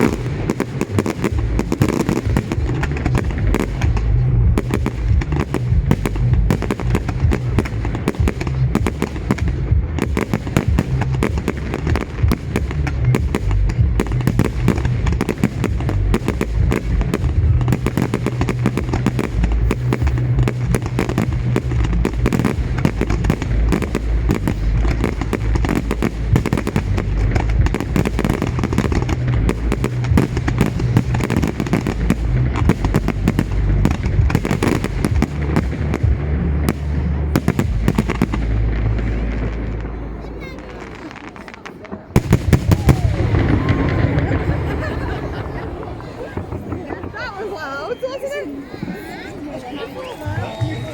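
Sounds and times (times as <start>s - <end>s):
deep low rumble: 0.0s - 41.2s, 42.2s - 47.2s
fireworks bangs: 0.0s - 50.9s.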